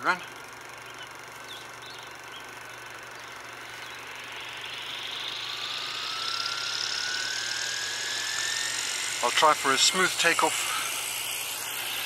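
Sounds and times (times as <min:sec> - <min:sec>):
electric motor whine: 0:00.0 - 0:12.0
rotor blades rushing: 0:00.0 - 0:12.0.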